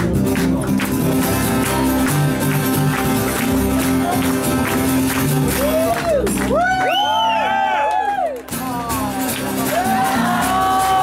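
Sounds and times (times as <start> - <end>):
acoustic guitars strummed and picked: 0.0 - 7.2, 8.4 - 11.0.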